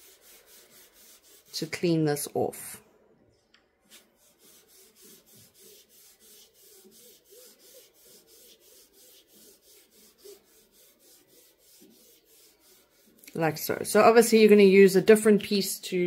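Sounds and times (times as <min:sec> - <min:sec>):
cotton wool scrubbing canvas: 0:00.0 - 0:02.5, 0:03.9 - 0:14.7.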